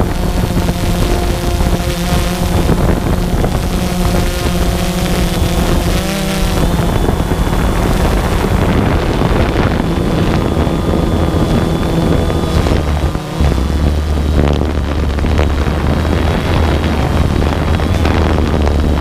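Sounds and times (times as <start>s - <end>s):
drone propellers droning: 0.0s - 19.0s
wind buffeting microphone: 0.0s - 19.0s.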